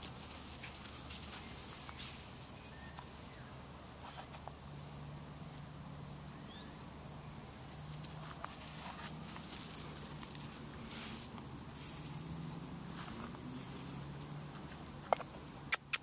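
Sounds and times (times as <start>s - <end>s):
puppy rustling on grass: 0.0s - 15.5s.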